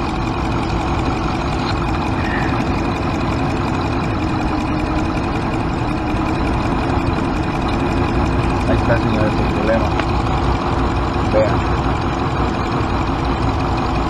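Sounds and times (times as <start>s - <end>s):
engine idling with misfire: 0.0s - 14.0s.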